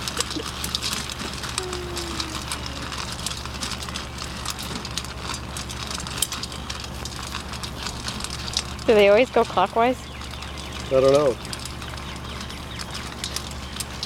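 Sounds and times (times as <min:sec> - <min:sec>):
puppies eating from metal pan: 0:00.0 - 0:14.0.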